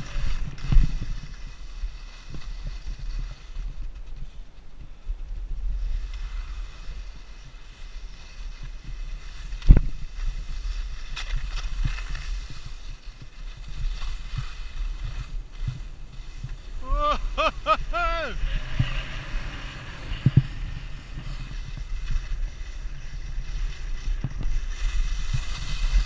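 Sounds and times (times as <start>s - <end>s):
skis scraping over snow: 0.0s - 26.0s
wind rumbling on microphone: 0.0s - 26.0s.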